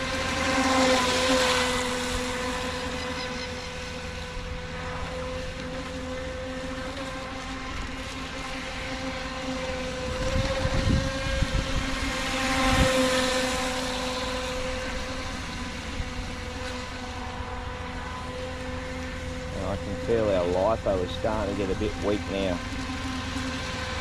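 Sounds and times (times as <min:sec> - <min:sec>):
electric boat motor whining: 0:00.0 - 0:24.0.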